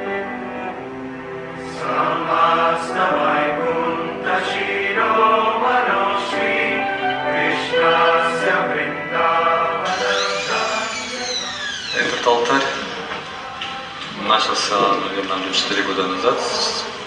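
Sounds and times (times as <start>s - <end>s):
choir singing: 0.0s - 17.0s
sustained musical accompaniment: 0.0s - 17.0s.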